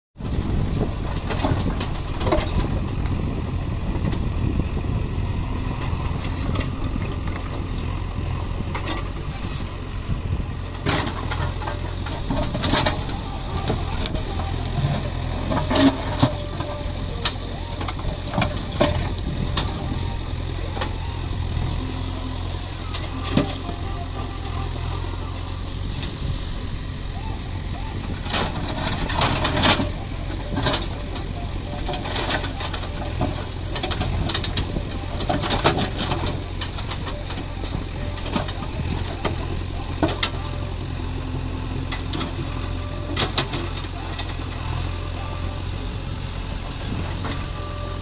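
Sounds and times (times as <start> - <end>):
diesel engine running: 0.2 - 48.0.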